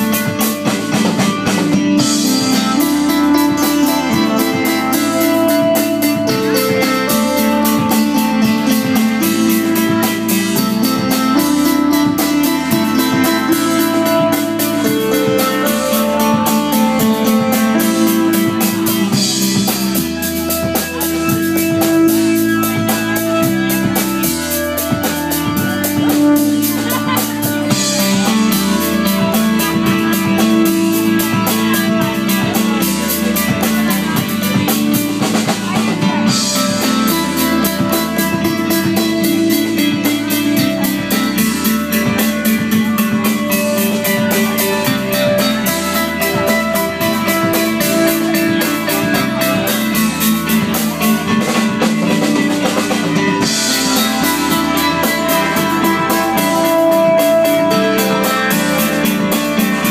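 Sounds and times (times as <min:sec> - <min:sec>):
drum kit beat: 0:00.0 - 0:59.9
electric guitar: 0:00.0 - 0:59.9
live rock band: 0:00.0 - 0:59.9.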